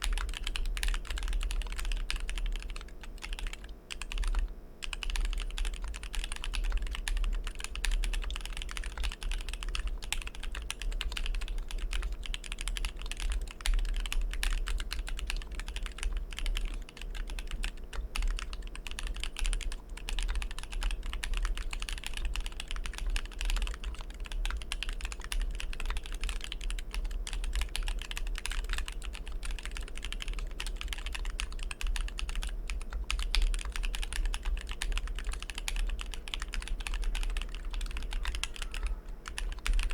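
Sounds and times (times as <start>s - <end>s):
fast typing on mechanical keyboard: 0.0s - 39.9s
steady low hum: 0.0s - 39.9s.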